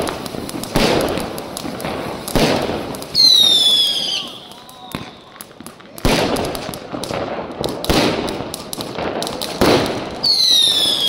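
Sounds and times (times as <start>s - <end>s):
firework bangs: 0.0s - 11.0s
firework crackle: 0.0s - 11.0s.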